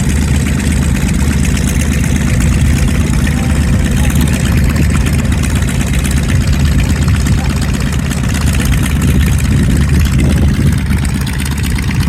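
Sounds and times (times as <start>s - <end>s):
propeller aircraft engines rumbling: 0.0s - 12.0s.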